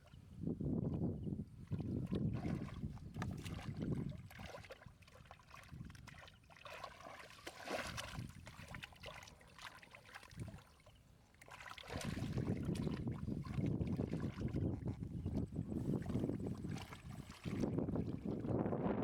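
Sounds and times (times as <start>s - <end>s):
small splashes and crackles: 1.6s - 18.5s
muddy water sloshing: 1.6s - 18.7s.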